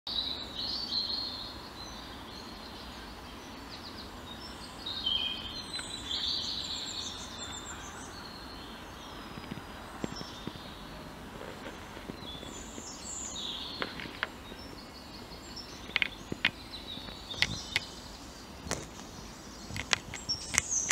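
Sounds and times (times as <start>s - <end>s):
low background hiss: 0.1s - 20.9s
songbirds chirping and trilling: 0.1s - 20.9s.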